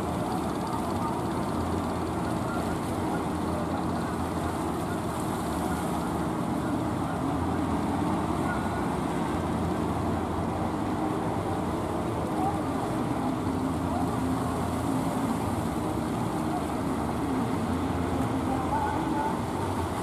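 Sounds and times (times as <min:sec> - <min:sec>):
boat engines running: 0:00.0 - 0:20.0
wind: 0:00.0 - 0:20.0.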